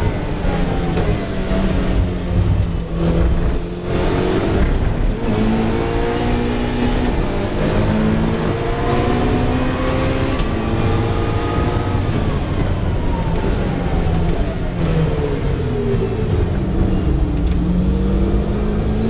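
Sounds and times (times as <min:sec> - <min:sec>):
race car accelerating through gears: 0:00.0 - 0:19.0.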